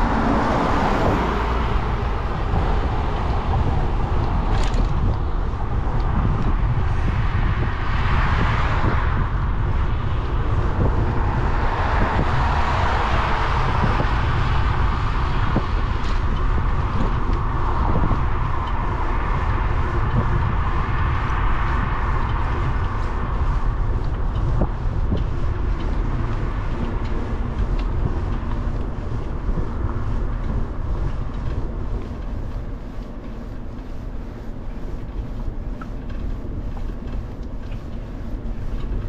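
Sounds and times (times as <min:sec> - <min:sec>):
bicycle tyres on asphalt: 0:00.0 - 0:39.0
wind on microphone: 0:00.0 - 0:39.0.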